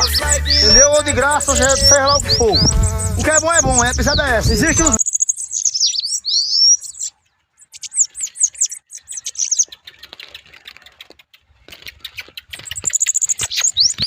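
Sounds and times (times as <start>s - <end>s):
bird singing rapid high song: 0.0s - 14.0s.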